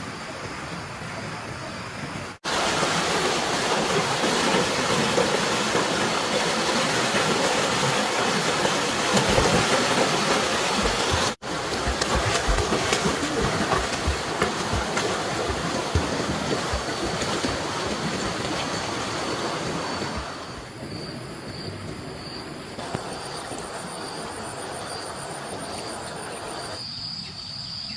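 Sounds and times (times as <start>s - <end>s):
rushing stream water: 0.0s - 20.8s, 22.8s - 26.8s.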